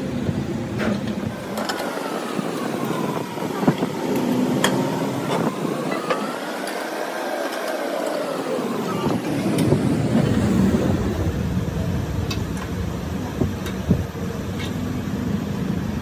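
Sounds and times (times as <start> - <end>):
machine whine: 0.0 - 16.0.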